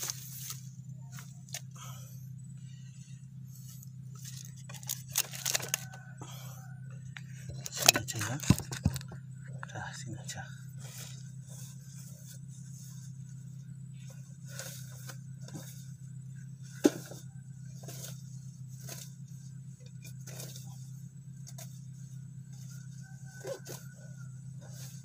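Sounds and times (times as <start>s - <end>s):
grass being pulled up: 0.0s - 6.1s, 10.8s - 25.0s
steady low hum: 0.0s - 25.0s.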